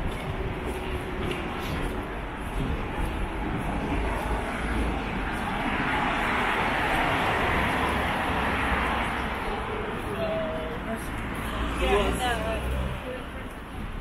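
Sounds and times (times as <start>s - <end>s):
passing vehicle roar: 0.0s - 13.6s.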